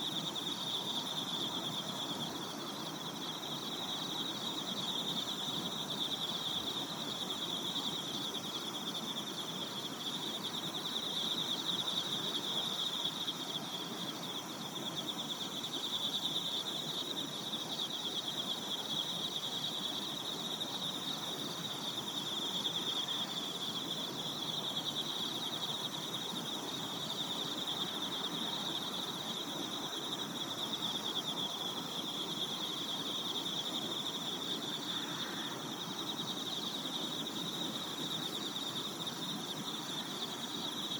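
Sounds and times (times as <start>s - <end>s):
crickets trilling: 0.0s - 40.9s
outdoor background hiss: 0.0s - 40.9s.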